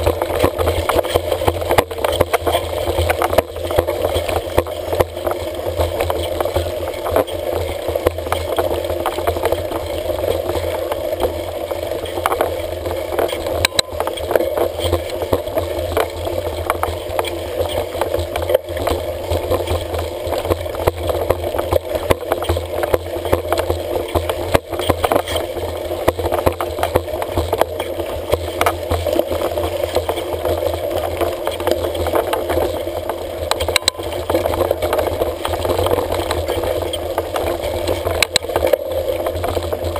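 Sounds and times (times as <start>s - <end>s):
bike rattles and clicks: 0.0s - 39.9s
wind and tyres on dirt: 0.0s - 39.9s.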